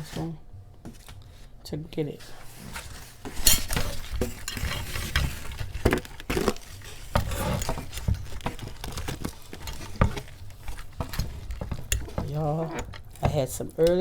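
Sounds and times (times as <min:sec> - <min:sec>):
utensils scraping a plate: 0:02.6 - 0:14.0.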